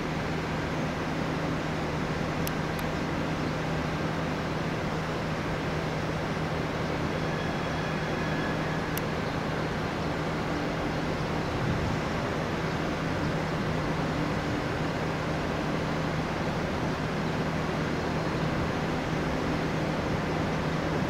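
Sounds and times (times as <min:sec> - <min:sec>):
electric train hum: 0:00.0 - 0:21.0
train rumble: 0:00.0 - 0:21.0.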